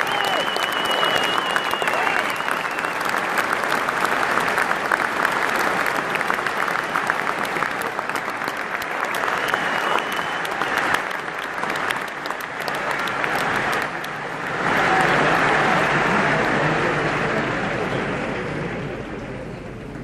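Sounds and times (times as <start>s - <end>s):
stadium crowd clapping and cheering: 0.0s - 20.0s.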